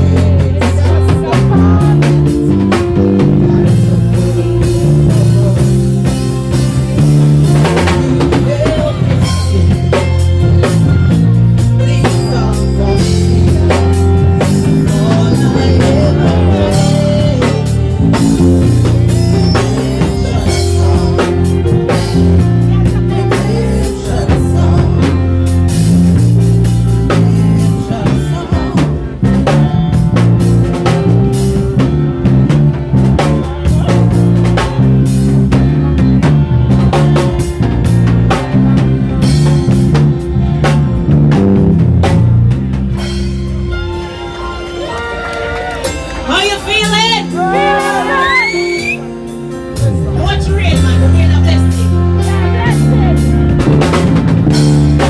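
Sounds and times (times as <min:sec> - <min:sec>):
drum kit beat: 0:00.0 - 0:55.0
live band playing loud music: 0:00.0 - 0:55.0.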